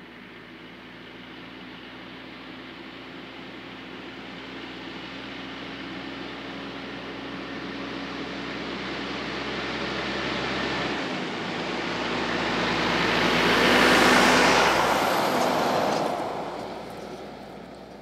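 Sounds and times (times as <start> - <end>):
truck diesel engine passing: 3.0 - 18.0.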